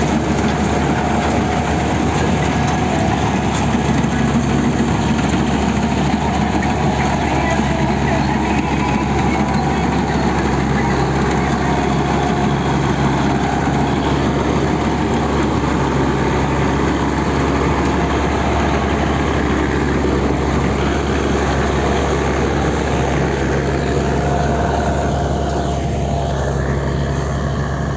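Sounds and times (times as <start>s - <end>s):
combine harvester drone: 0.0s - 27.9s.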